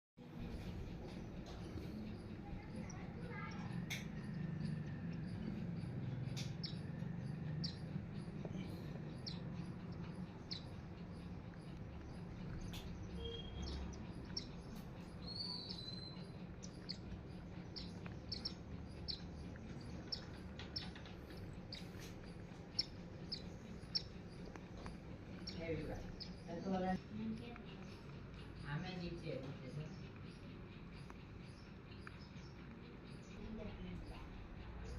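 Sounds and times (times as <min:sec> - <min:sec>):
sparrows chirping: 0:00.2 - 0:34.9.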